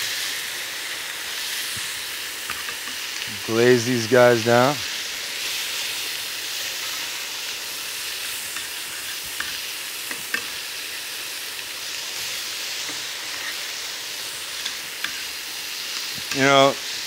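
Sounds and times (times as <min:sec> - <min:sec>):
chicken sizzling on grill pan: 0:00.0 - 0:17.0.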